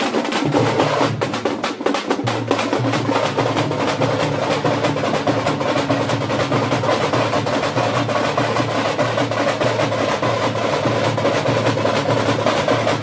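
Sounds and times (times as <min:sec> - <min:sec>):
drums beaten with sticks: 0:00.0 - 0:13.0.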